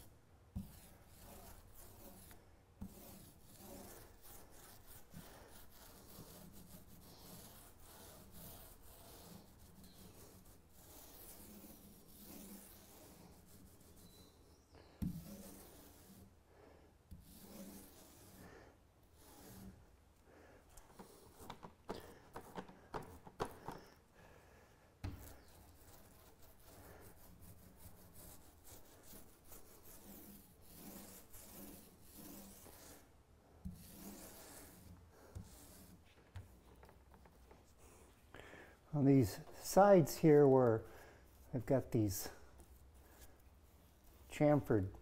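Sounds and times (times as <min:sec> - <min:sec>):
paint roller swishing: 0:00.0 - 0:16.5, 0:17.1 - 0:24.0, 0:25.0 - 0:38.3, 0:39.0 - 0:44.9.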